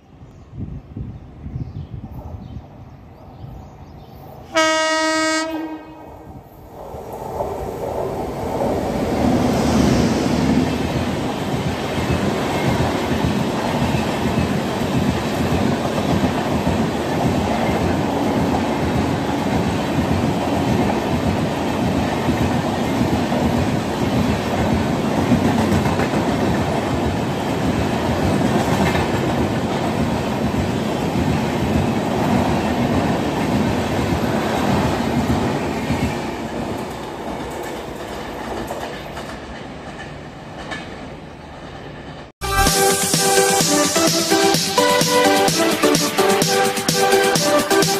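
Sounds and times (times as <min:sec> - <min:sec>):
train passing at speed: 0:00.0 - 0:47.9.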